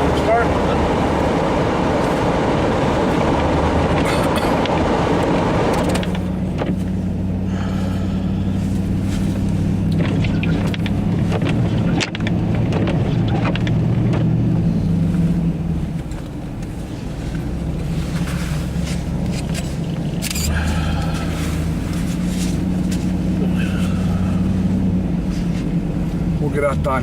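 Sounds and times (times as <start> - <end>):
truck engine droning: 0.0 - 27.0.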